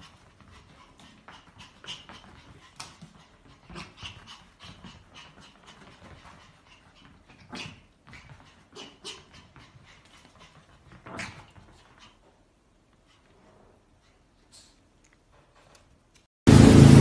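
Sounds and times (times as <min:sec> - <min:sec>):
puppy panting: 0:00.0 - 0:14.9.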